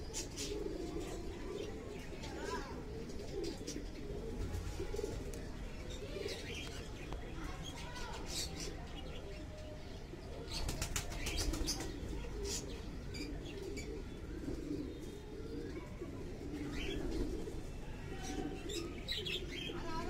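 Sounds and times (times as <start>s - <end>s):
pigeons cooing: 0.0s - 6.9s, 8.2s - 20.0s.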